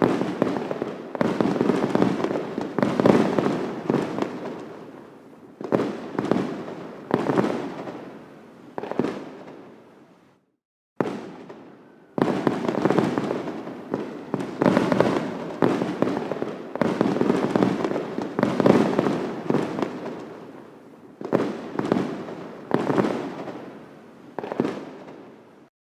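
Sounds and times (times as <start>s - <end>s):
fireworks exploding: 0.0s - 9.9s, 11.0s - 25.7s.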